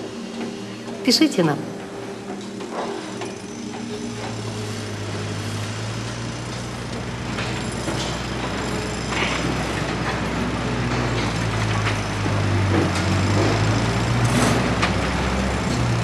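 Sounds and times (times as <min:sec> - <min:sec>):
engine running with low hum: 0:00.0 - 0:01.0, 0:01.6 - 0:16.0.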